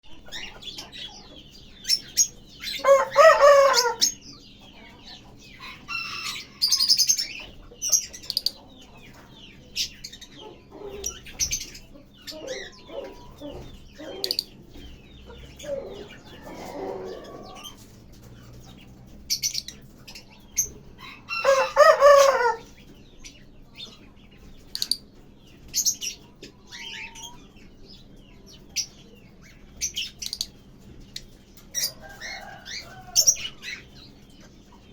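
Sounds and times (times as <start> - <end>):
birds chirping and twittering: 0.0 - 34.9
harsh bird calls: 0.1 - 34.9.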